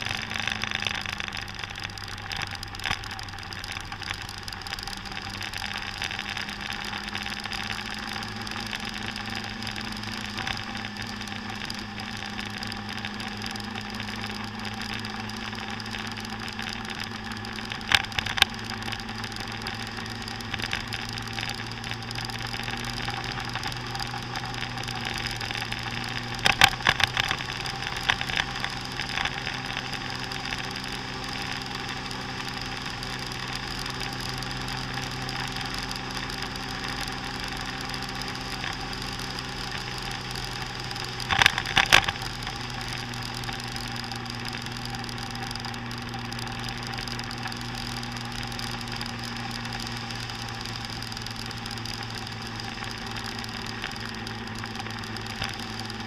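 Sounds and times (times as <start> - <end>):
scooter engine humming: 0.0 - 56.0
sharp clicks or rattles: 0.0 - 56.0.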